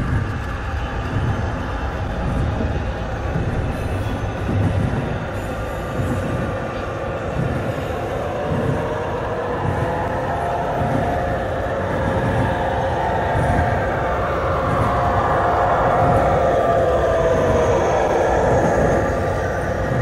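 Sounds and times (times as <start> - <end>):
model train running hum: 0.0 - 20.0.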